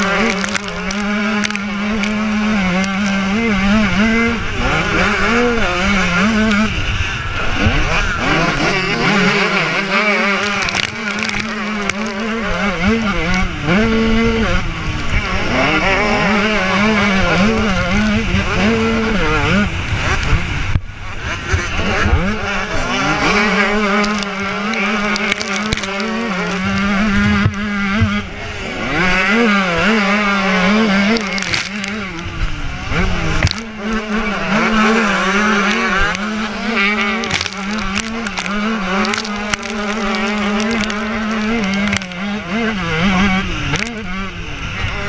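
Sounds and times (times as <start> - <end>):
motocross bike engine revving: 0.0 - 45.0.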